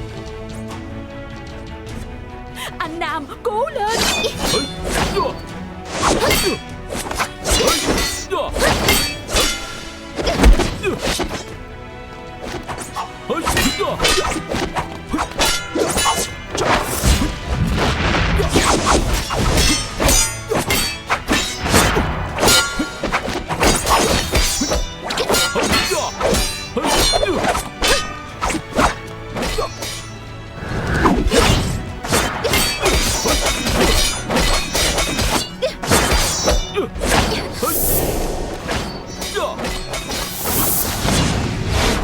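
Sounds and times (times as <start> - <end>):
film soundtrack music: 0.0 - 42.0
swords clashing: 3.9 - 11.6, 12.4 - 41.3.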